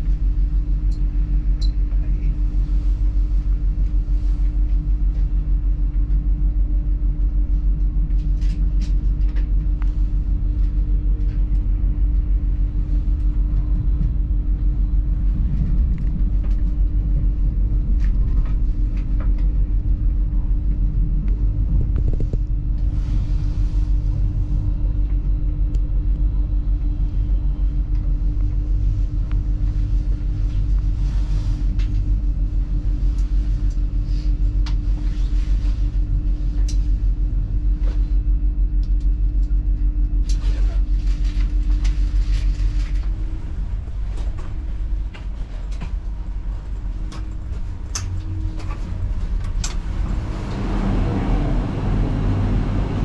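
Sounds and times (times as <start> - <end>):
constant hum: 0.0 - 53.0
train low rumble: 0.0 - 53.0.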